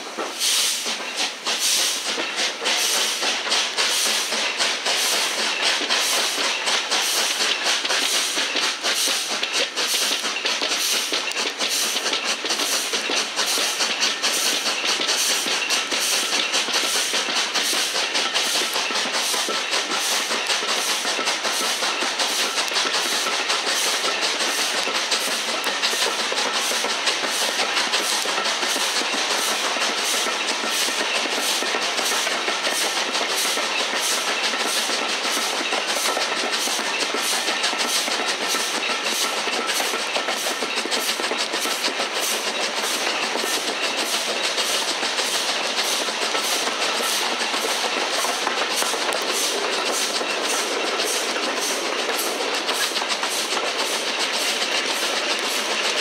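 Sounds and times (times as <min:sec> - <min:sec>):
steam train running at speed: 0:00.0 - 0:56.0.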